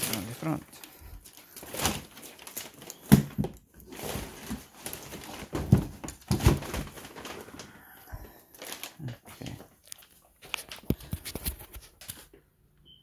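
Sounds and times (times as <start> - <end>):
packing paper rustling: 0.0 - 12.4.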